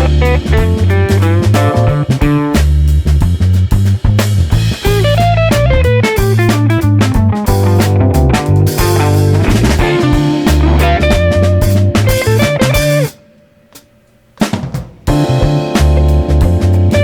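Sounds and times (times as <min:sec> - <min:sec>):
drum hits: 0:00.0 - 0:13.2, 0:14.4 - 0:17.0
rock band playing: 0:00.0 - 0:13.2, 0:14.5 - 0:17.0.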